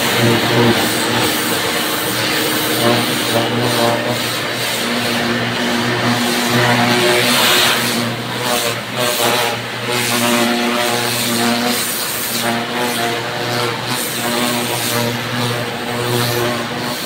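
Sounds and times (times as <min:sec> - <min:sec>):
pressure washer pump motor humming: 0:00.0 - 0:17.0
water jet hissing on pavement: 0:00.0 - 0:17.0.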